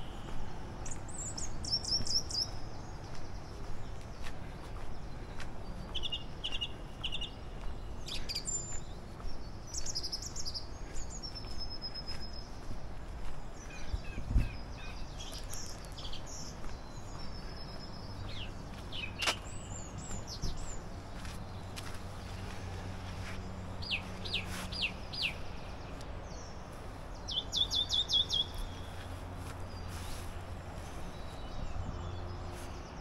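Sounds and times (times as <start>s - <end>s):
songbirds chirping and whistling: 0.0s - 33.0s.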